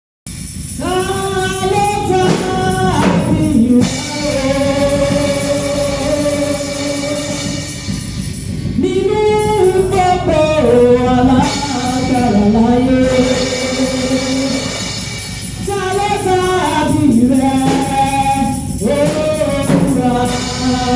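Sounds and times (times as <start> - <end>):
rhythmic band accompaniment: 0.3 - 20.9
gospel singing: 0.7 - 20.9.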